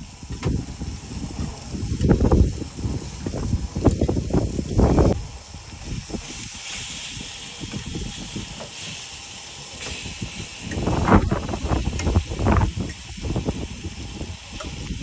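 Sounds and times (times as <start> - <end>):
fish sizzling on a grill: 0.0 - 15.0.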